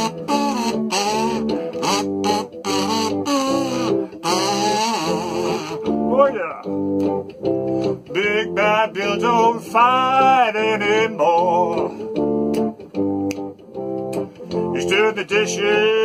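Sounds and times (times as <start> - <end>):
wavering lead melody: 0.0 - 15.1.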